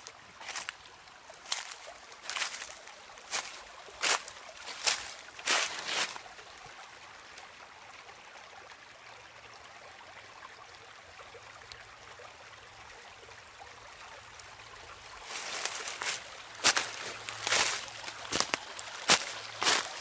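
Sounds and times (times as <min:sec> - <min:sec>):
creek water flowing over rocks: 0:00.0 - 0:20.0.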